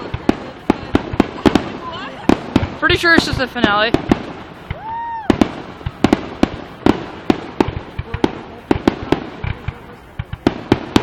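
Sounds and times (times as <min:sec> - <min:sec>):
firework bursts and booms: 0:00.0 - 0:11.0.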